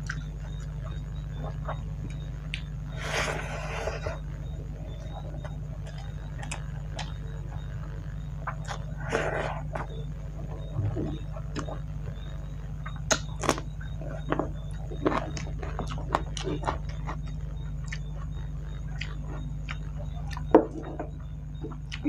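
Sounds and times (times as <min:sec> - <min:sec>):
crunching and chewing onion: 0:00.0 - 0:22.0
steady low hum: 0:00.0 - 0:22.0.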